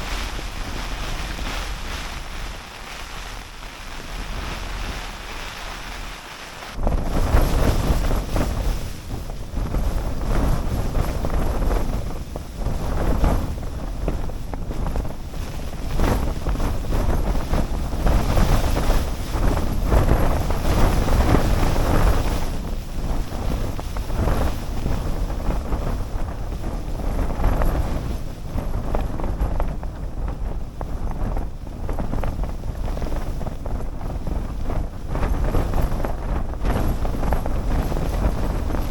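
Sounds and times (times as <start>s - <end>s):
strong gusting wind: 0.0s - 38.9s
wind rumble on microphone: 0.0s - 38.9s.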